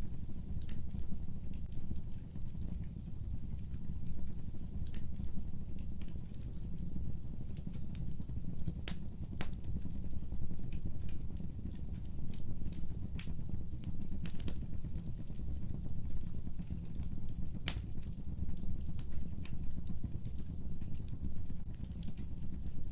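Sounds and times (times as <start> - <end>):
fireplace fire crackling: 0.0 - 22.9.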